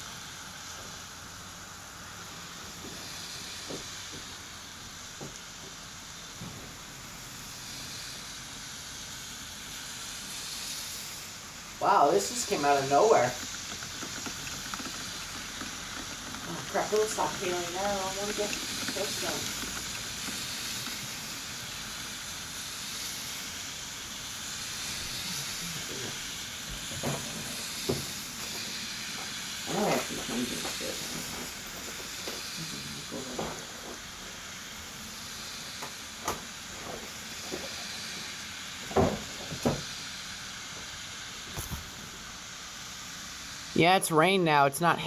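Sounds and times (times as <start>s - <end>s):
rain and hail hissing: 0.0s - 45.0s.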